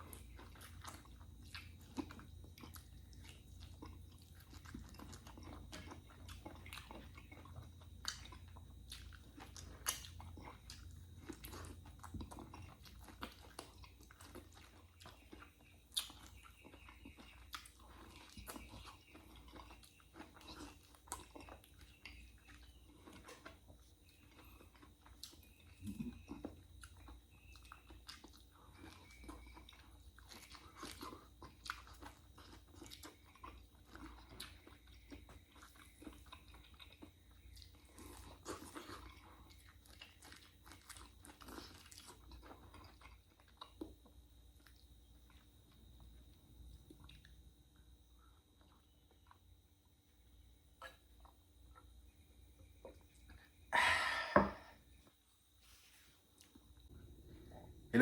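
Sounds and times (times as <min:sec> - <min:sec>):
person chewing and crunching: 0:00.0 - 0:55.3, 0:56.2 - 0:58.0.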